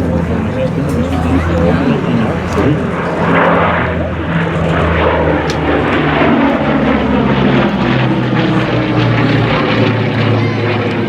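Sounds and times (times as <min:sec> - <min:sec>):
propeller airplane engine: 0:00.0 - 0:11.0.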